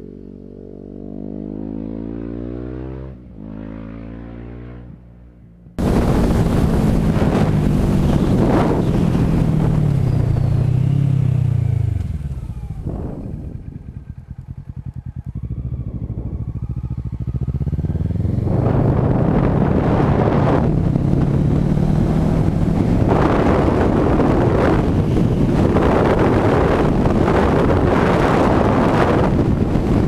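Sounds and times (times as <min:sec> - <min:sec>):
motorcycle engine revving: 0:00.0 - 0:30.0
wind noise on microphone: 0:05.8 - 0:30.0.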